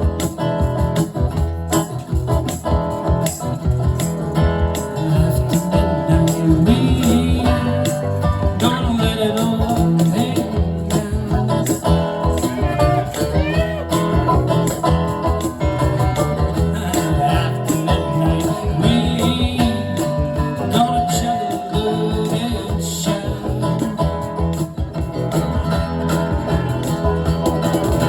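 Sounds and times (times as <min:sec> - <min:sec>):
guitar: 0:00.0 - 0:28.0
live band playing: 0:00.0 - 0:28.0.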